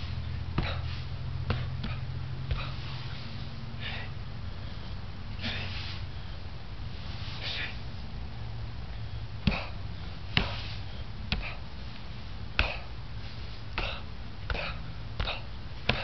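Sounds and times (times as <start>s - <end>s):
person breathing sharply through nose: 0.0s - 8.1s, 8.9s - 16.0s
steady low hum: 0.0s - 16.0s.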